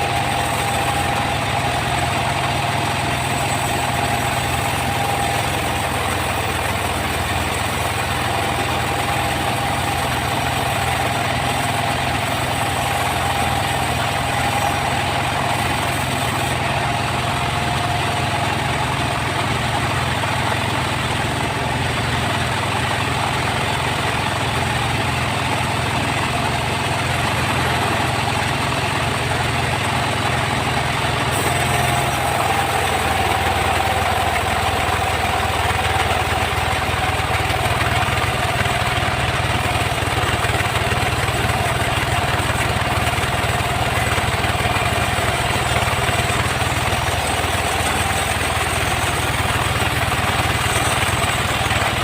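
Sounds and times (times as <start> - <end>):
engine drone: 0.0 - 52.0
sawmill whine: 0.0 - 52.0.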